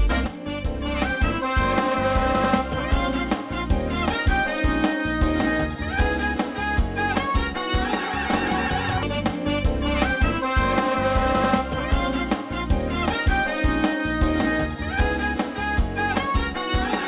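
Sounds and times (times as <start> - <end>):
upbeat instrumental music: 0.0 - 17.0.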